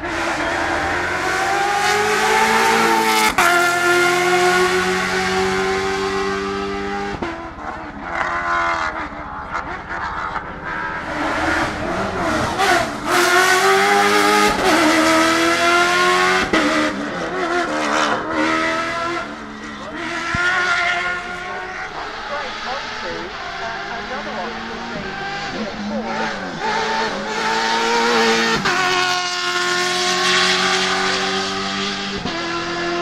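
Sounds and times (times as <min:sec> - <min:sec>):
truck engine revving hard: 0:00.0 - 0:07.1, 0:11.0 - 0:33.0.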